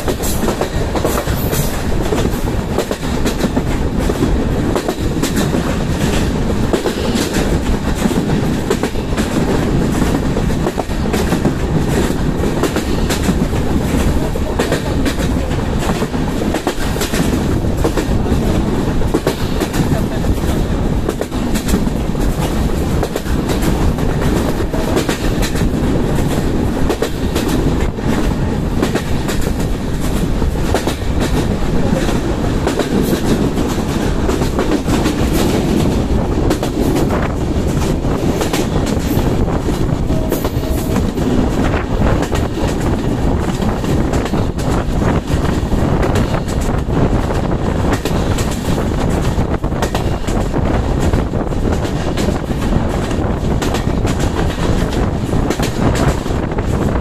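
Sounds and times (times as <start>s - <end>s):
clickety-clack over rail joints: 0.0s - 57.0s
train wheels rumbling on track: 0.0s - 57.0s.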